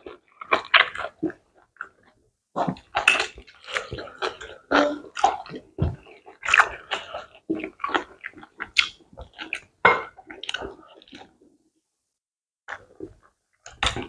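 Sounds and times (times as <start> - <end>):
wet chewing and smacking: 0.0 - 11.5.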